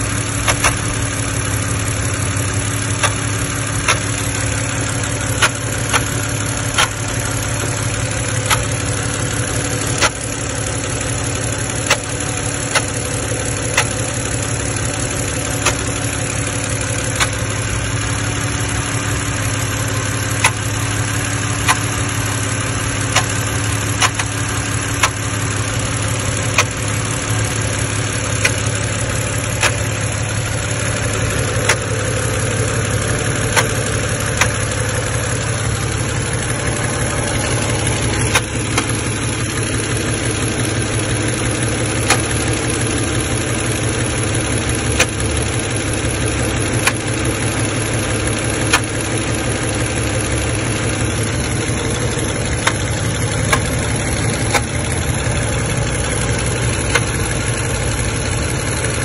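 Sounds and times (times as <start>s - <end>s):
car engine idling: 0.0s - 59.0s
sharp engine clicks: 0.0s - 59.0s.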